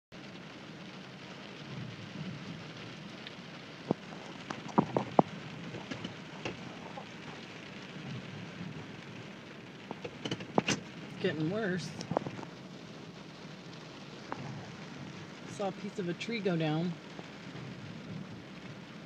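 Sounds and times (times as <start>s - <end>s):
rushing floodwater: 0.2s - 19.0s.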